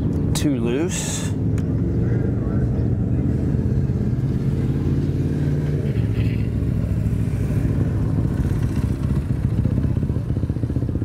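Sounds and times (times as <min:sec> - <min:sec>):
engine low drone: 0:00.0 - 0:11.0.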